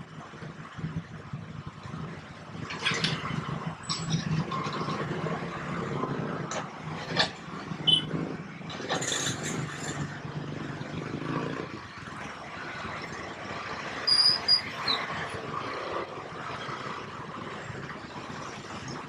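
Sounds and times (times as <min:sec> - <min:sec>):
motorcycles running at low speed: 0:00.0 - 0:19.0.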